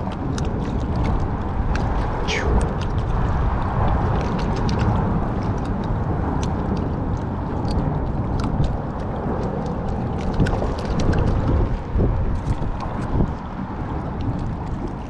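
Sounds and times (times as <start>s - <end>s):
water against kayak hull: 0.0s - 15.0s
wind rumble on microphone: 0.0s - 15.0s.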